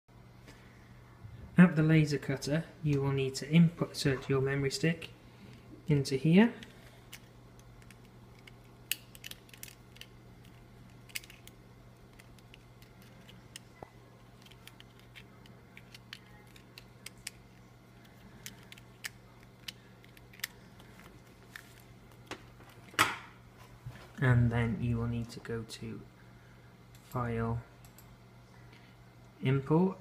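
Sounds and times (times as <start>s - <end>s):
steady low hum: 0.1s - 30.0s.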